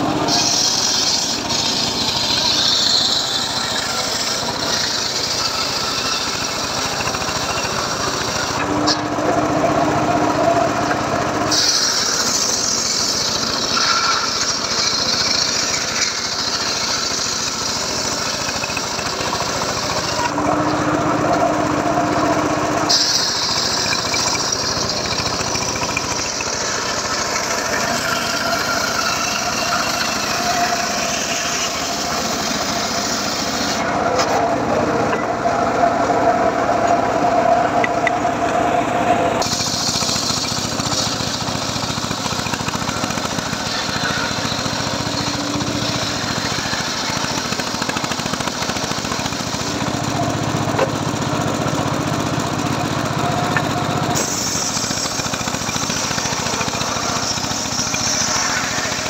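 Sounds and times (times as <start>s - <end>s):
circular saw cutting log: 0.0s - 59.0s.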